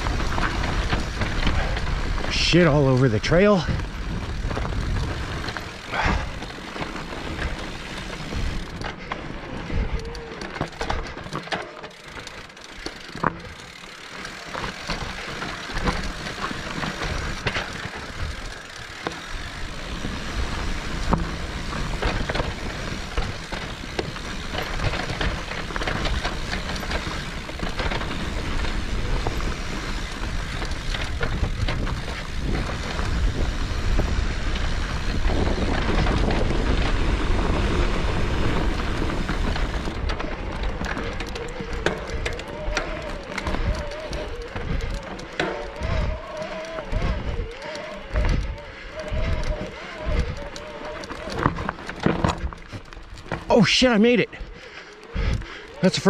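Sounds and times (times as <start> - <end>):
bike crunching and rattling on trail: 0.0 - 56.0.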